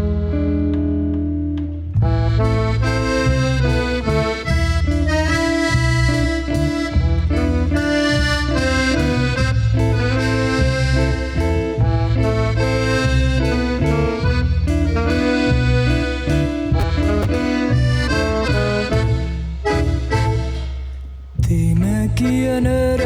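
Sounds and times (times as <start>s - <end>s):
accordion melody: 0.0s - 23.0s
bass line: 0.0s - 23.0s
rhythm section: 0.0s - 23.0s.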